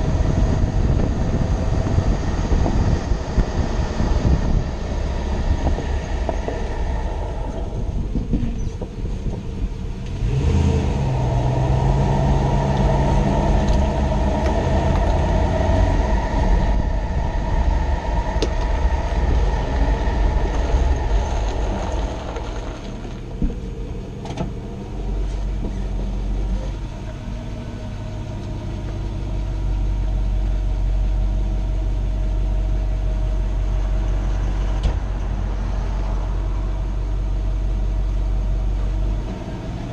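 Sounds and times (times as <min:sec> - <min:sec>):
pickup truck engine rumble: 0:00.0 - 0:39.9.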